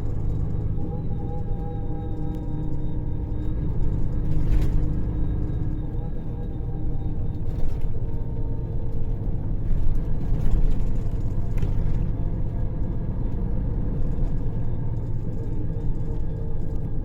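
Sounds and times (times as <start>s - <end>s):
bus diesel engine droning: 0.0s - 17.0s.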